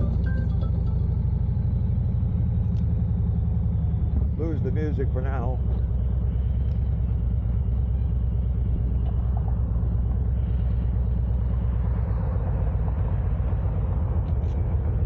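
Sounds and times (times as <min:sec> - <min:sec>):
road and wind noise: 0:00.0 - 0:15.0
vehicle rumble: 0:00.0 - 0:15.0.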